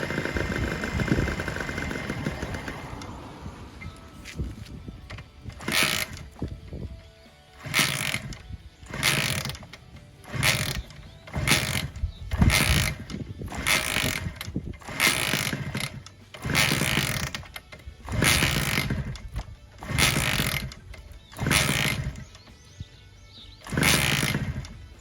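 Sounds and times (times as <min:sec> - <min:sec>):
two-stroke engine surging: 0:00.0 - 0:25.0.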